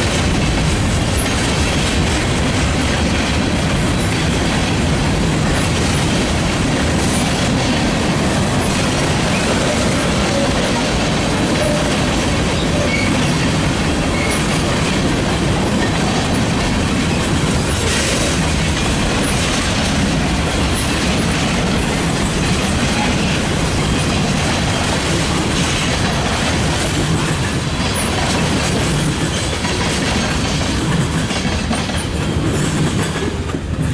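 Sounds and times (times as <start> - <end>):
steel wheels rumbling on rails: 0.0 - 33.9
wheel clatter over rail joints: 0.0 - 33.9.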